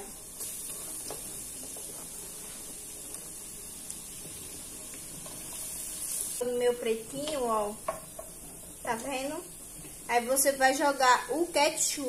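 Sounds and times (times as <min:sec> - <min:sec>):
onion frying sizzle: 0:00.0 - 0:12.0.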